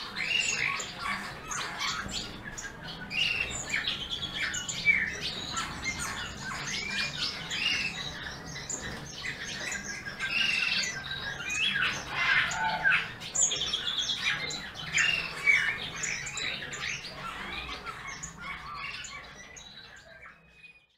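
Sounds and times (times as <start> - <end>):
songbirds chirping and warbling: 0.0 - 20.9.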